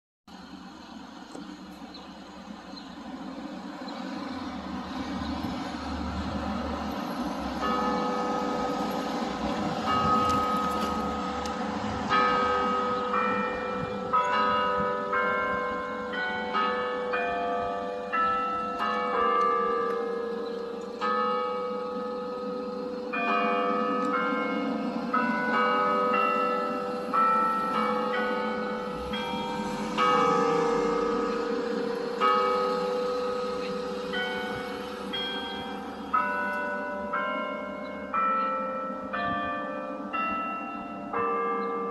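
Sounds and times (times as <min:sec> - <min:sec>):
church bells ringing: 0:03.2 - 0:41.9.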